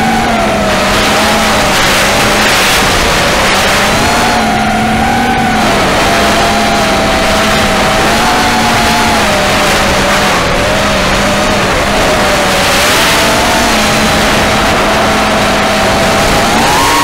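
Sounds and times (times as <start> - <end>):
quadcopter motors whining: 0.0 - 17.0
wind noise on microphone: 0.0 - 17.0.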